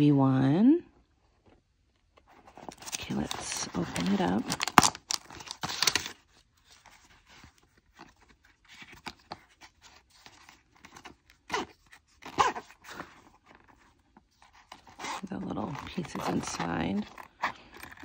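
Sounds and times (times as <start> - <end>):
paper and nylon pouch rustling: 2.3 - 18.0.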